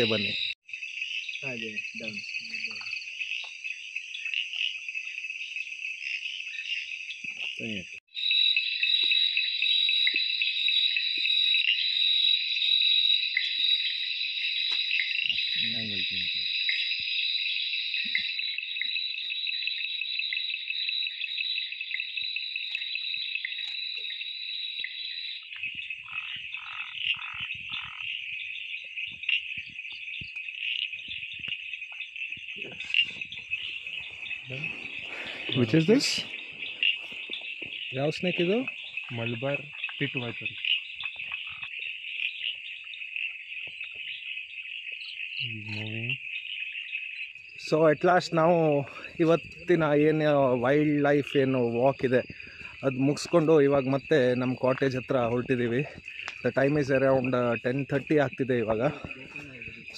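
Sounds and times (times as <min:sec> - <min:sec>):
low pulsed calls: 0:00.0 - 0:00.6, 0:08.1 - 0:59.9
frogs and insects trilling: 0:00.0 - 0:59.9.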